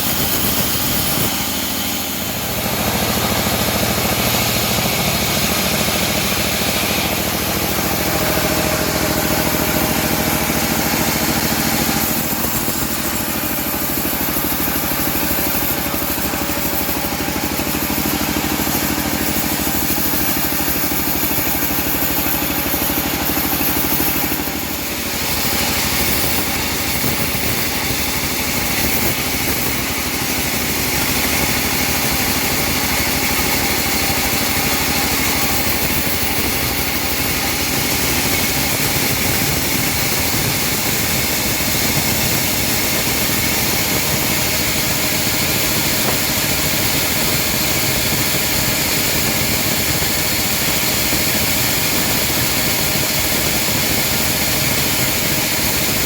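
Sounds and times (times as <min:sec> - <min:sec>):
engine drone: 0:00.0 - 0:56.0
saw blade noise: 0:00.0 - 0:56.0.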